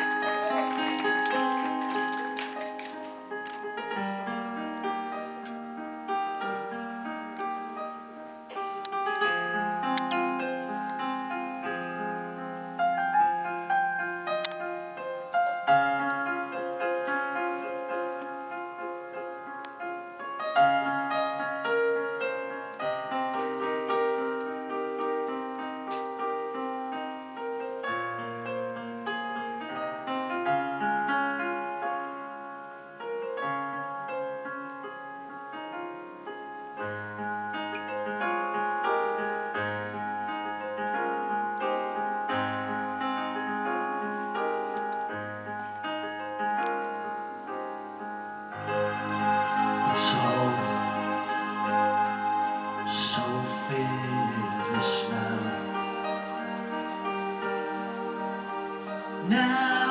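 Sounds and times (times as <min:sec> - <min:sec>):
slow piano chords and melody: 0:00.0 - 0:59.9.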